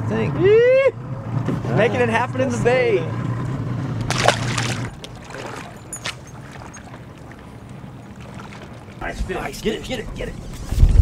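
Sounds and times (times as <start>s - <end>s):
faint water and wind noise: 0.0s - 11.0s
boat motor humming: 1.0s - 10.5s.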